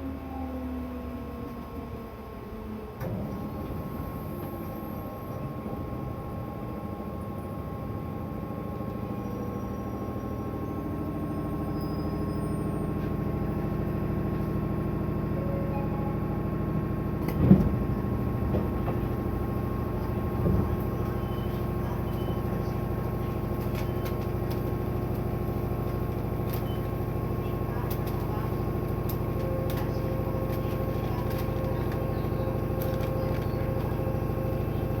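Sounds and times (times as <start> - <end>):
train equipment hum: 0.0 - 35.0.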